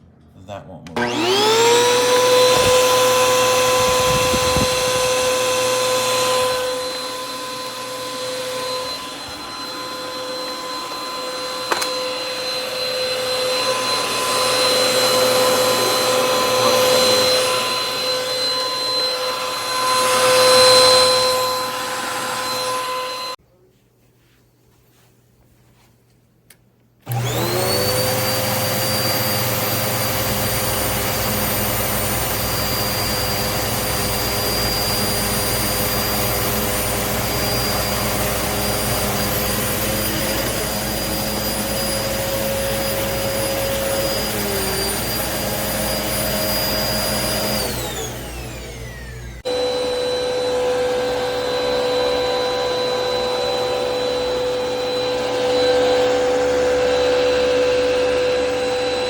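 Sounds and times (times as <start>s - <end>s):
vacuum cleaner motor whining: 0.9s - 23.4s, 27.0s - 59.0s.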